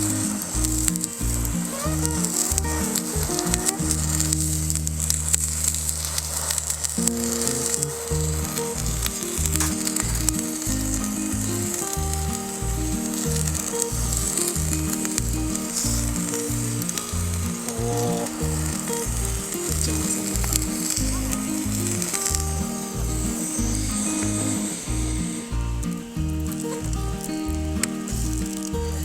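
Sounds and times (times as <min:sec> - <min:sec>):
background music with bass: 0:00.0 - 0:29.0
rice sizzling in a skillet: 0:00.0 - 0:29.0.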